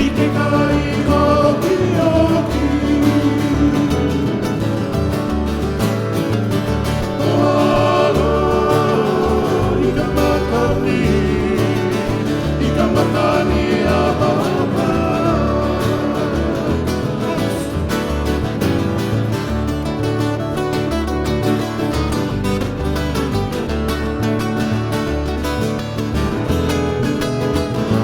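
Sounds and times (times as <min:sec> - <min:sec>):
bass line: 0:00.0 - 0:28.0
plucked strings melody: 0:00.0 - 0:28.0
strummed guitar: 0:00.0 - 0:28.0.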